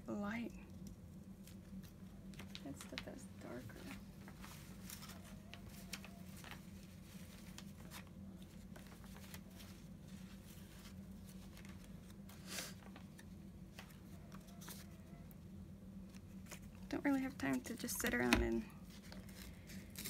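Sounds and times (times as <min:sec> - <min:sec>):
steady low hum: 0:00.0 - 0:20.0
paper rustling: 0:01.4 - 0:15.3, 0:16.0 - 0:20.0.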